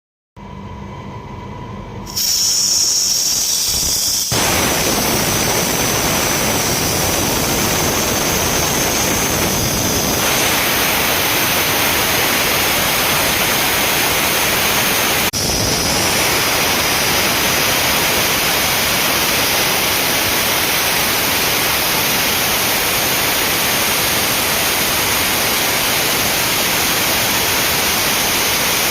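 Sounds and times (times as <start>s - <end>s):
compressed air hissing from valve: 2.1s - 28.9s.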